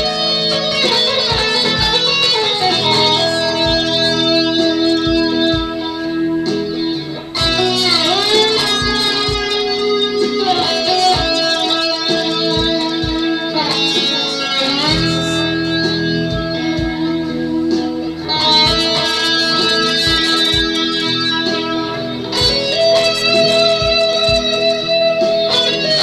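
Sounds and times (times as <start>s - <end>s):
electric guitar lead line: 0.0s - 26.0s.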